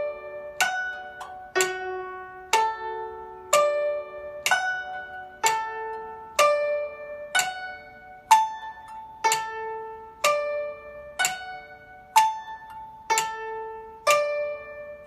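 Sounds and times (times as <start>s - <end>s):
plucked zither notes: 0.0s - 15.0s.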